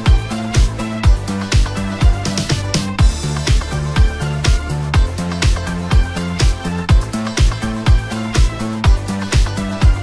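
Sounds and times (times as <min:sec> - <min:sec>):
dance music: 0:00.0 - 0:10.0.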